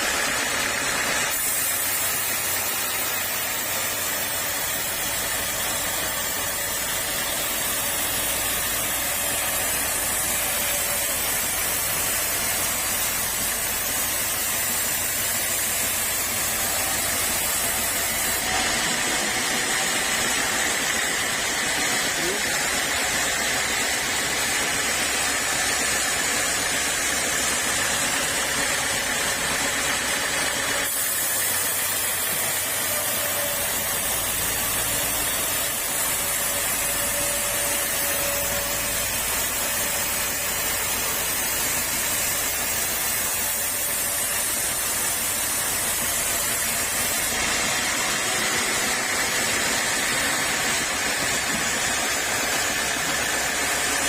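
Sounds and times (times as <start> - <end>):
sawmill saw hissing: 0.0 - 54.0.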